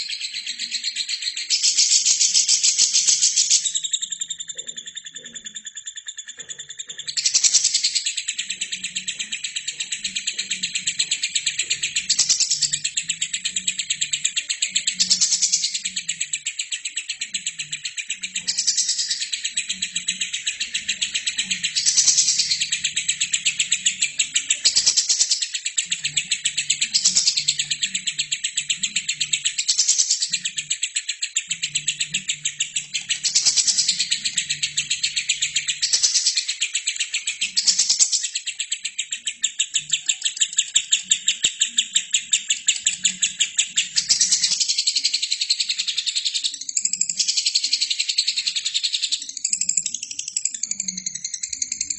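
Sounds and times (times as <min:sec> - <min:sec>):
bird chirping: 0:00.0 - 0:51.9.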